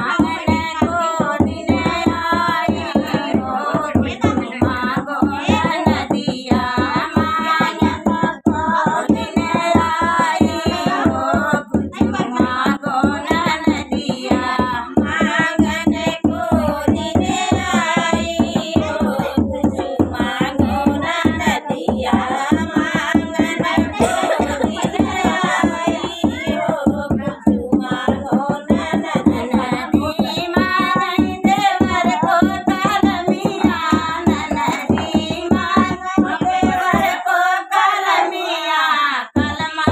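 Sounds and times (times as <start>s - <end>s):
hand drum rhythm: 0.0s - 38.2s, 39.3s - 39.9s
women singing folk song: 0.0s - 39.9s.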